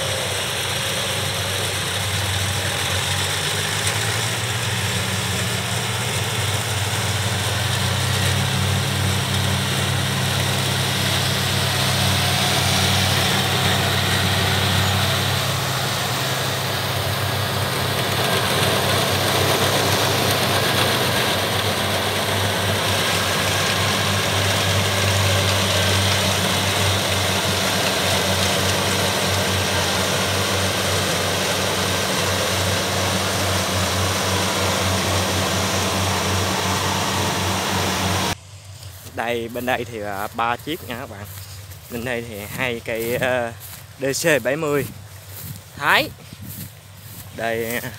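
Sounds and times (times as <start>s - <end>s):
combine harvester engine hum: 0.0s - 47.9s
harvester threshing hiss: 0.0s - 47.9s.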